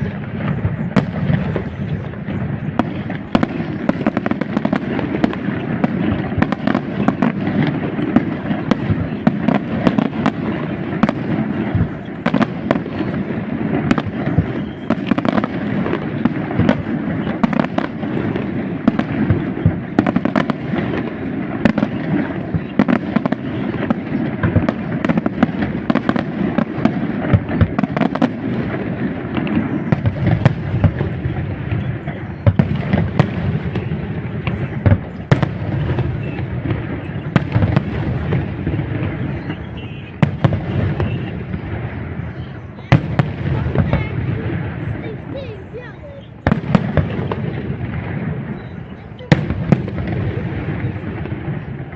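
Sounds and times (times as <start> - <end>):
fireworks bursts and crackle: 0.0 - 51.9.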